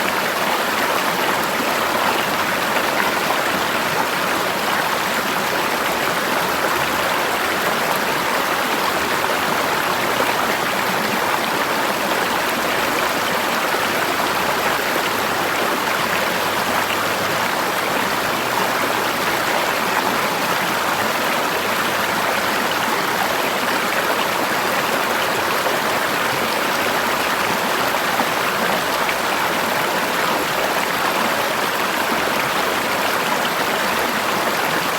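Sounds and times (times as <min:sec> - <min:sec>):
river water flowing over rocks: 0:00.0 - 0:34.9.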